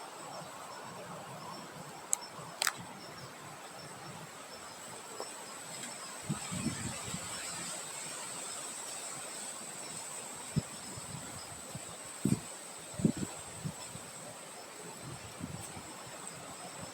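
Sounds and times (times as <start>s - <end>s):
insects droning: 0.0s - 16.9s.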